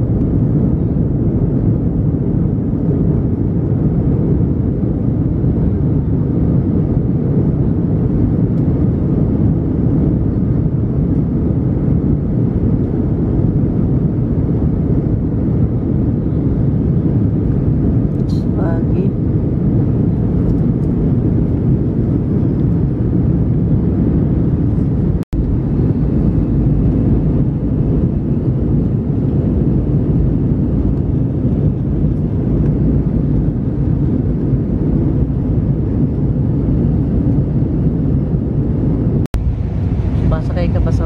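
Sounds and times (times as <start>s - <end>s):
airliner cabin engine noise: 0.0s - 41.0s.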